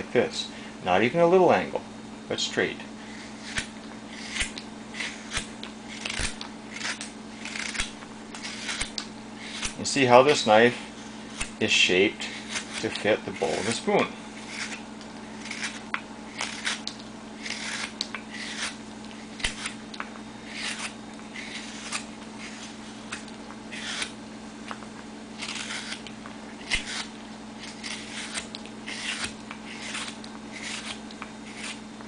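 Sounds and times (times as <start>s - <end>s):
knife slicing wood: 3.1s - 32.0s.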